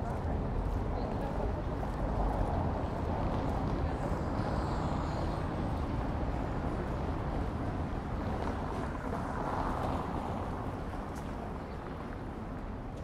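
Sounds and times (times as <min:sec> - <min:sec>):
rumble of passing cars: 0:00.0 - 0:13.0.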